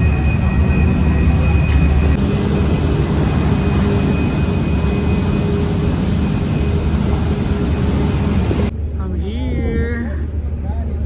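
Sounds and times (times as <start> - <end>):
ferry engine droning: 0.0 - 11.0
wind over microphone: 0.1 - 11.0.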